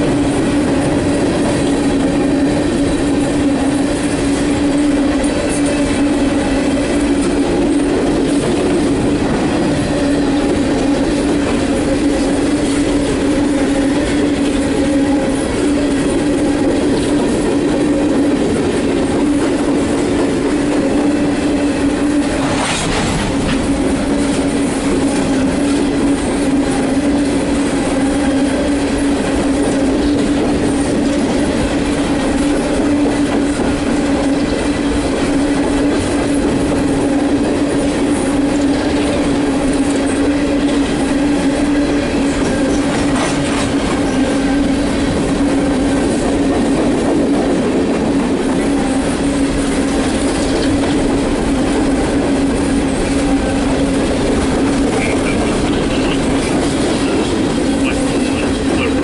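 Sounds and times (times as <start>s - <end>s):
freight train droning: 0.0s - 59.0s.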